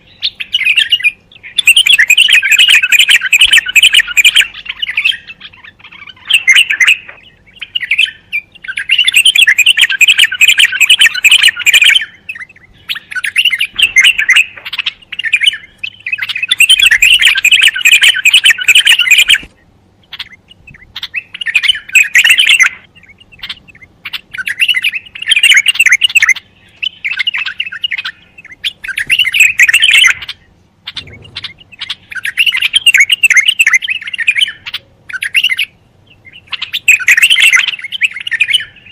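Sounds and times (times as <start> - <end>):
bird singing rapid notes: 0.0 - 38.9.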